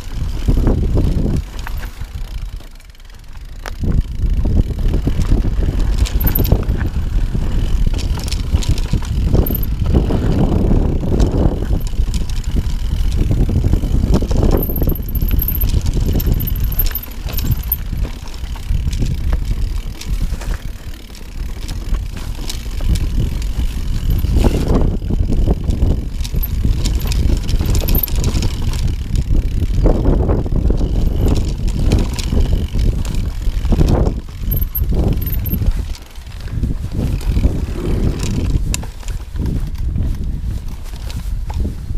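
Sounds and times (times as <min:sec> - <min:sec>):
tyres rumbling over rocks: 0:00.0 - 0:39.8
bike rattling over stones: 0:00.0 - 0:41.9.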